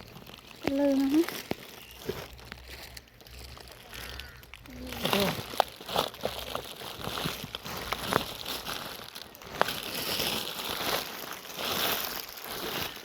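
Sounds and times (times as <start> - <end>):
rubbish crinkling and rustling: 0.0 - 13.0.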